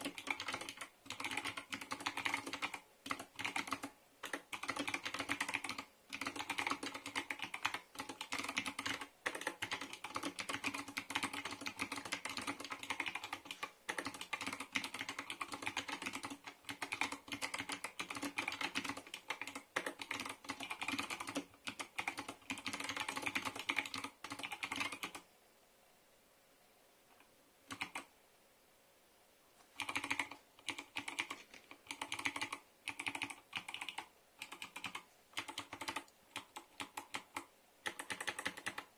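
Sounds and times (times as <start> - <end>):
mechanical keyboard typing: 0.0 - 25.2, 27.7 - 28.1, 29.8 - 38.9.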